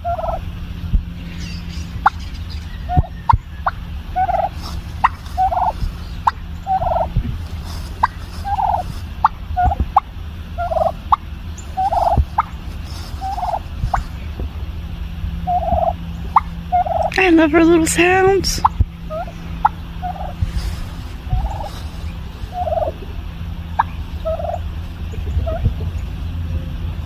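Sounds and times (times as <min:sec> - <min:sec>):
turkey hen soft calls: 0:00.0 - 0:00.4, 0:01.3 - 0:14.4, 0:15.4 - 0:17.2, 0:18.6 - 0:26.2.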